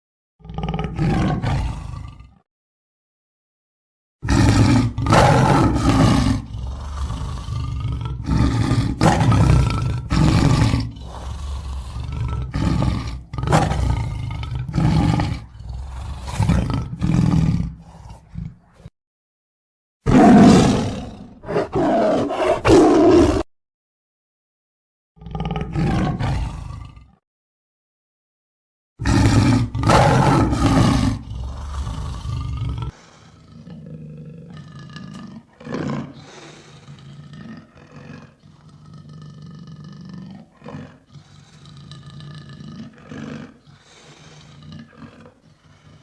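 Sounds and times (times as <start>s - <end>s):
lion roaring and grunting: 0.4s - 2.4s, 4.2s - 18.9s, 20.1s - 23.5s, 25.2s - 27.2s, 29.0s - 46.0s.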